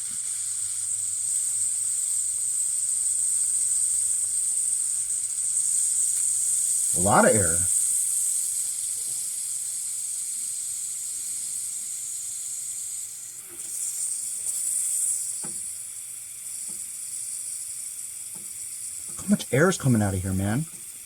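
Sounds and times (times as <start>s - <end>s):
air hissing from radiator valve: 0.0s - 21.0s.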